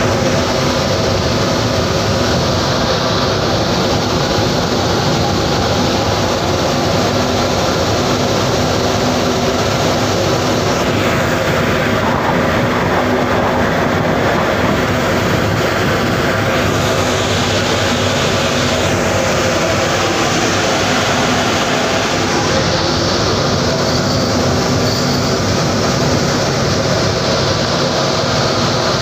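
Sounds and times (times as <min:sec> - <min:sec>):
boat engine droning: 0:00.0 - 0:29.0
wake water rushing along hull: 0:00.0 - 0:29.0.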